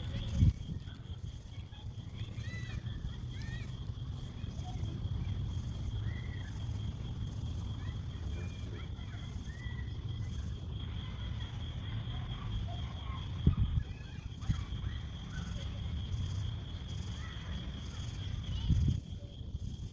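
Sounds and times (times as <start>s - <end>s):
high insect trill: 0.0s - 19.9s.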